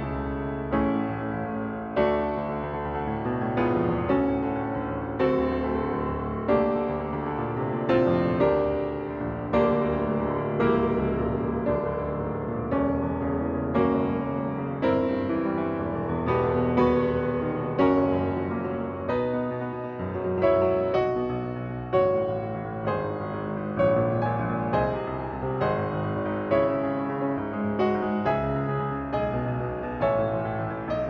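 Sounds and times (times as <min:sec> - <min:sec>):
grand piano classical piece: 0:00.0 - 0:31.0.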